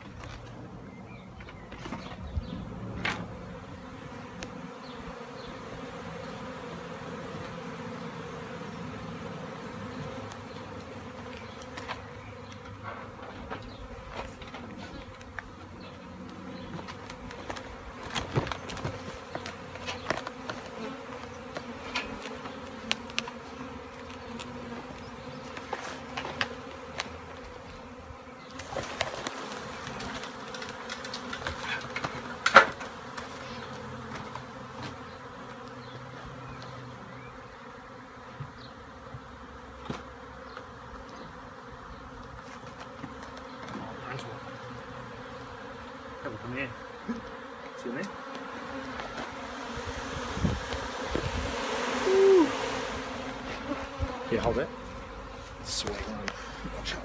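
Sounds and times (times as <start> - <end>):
bees humming: 0.0 - 57.0.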